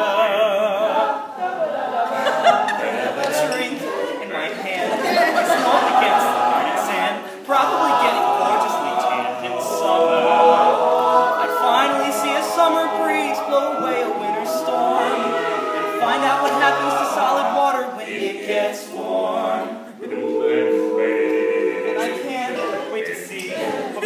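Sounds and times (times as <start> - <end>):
male a cappella group singing: 0.0 - 24.0.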